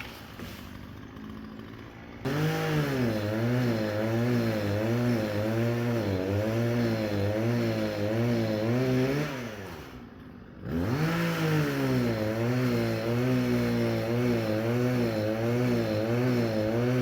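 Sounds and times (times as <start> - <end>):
engine revving: 0.0 - 10.0, 10.6 - 17.0.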